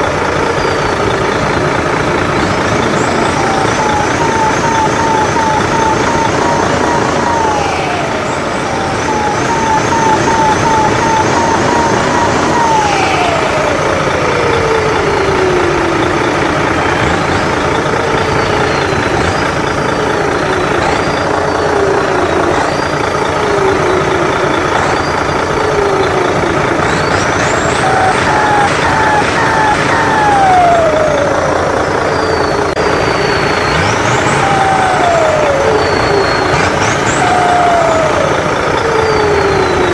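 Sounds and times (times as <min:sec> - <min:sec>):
engine sound effect rumble: 0:00.0 - 0:39.9
turbo whining and whistles: 0:00.0 - 0:39.9.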